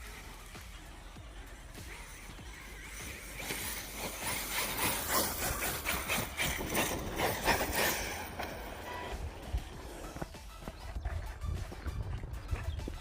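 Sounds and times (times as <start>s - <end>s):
toy truck tyres rumbling on concrete: 0.0s - 13.0s.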